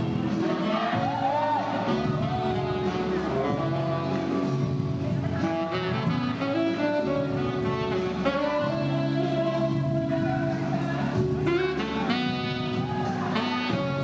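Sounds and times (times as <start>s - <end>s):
tenor saxophone slow melody: 0.0s - 14.0s.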